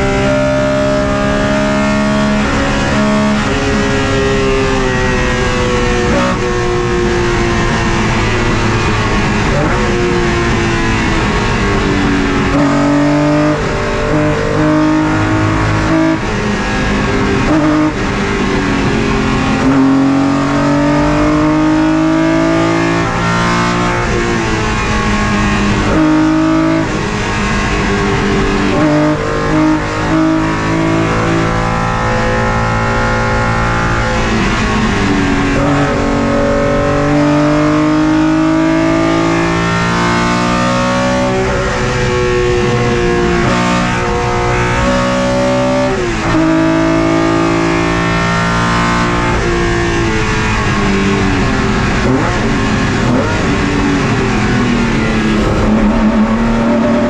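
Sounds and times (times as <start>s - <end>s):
racing engine upshifting: 0.0s - 57.0s.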